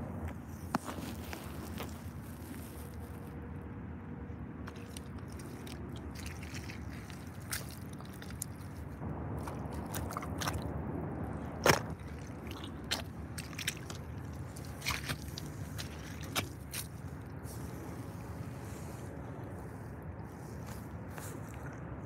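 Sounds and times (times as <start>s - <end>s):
low steady rumble: 0.0s - 22.0s
boots squelching through mud: 0.6s - 3.4s, 4.6s - 22.0s.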